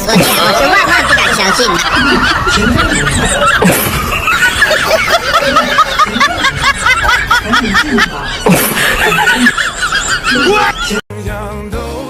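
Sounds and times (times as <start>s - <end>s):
high-pitched snickering laughs: 0.1s - 11.0s.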